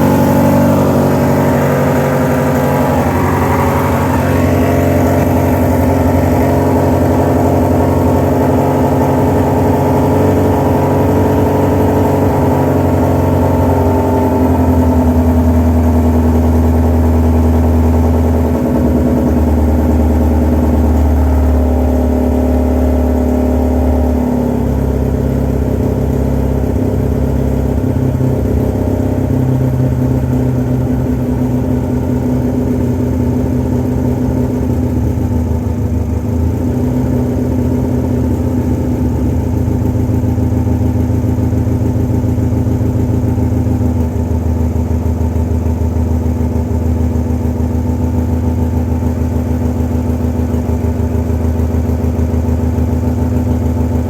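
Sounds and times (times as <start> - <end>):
motorcycle engine revving and idling: 0.0 - 54.0.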